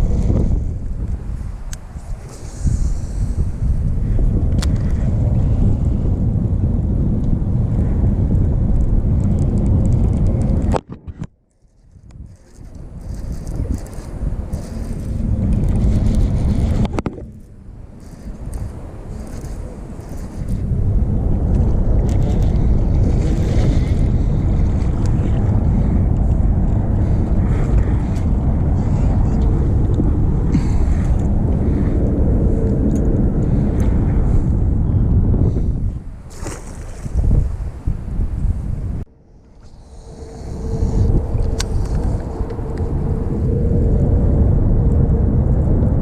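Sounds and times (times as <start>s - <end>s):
wind rumbling on microphone: 0.0s - 46.0s.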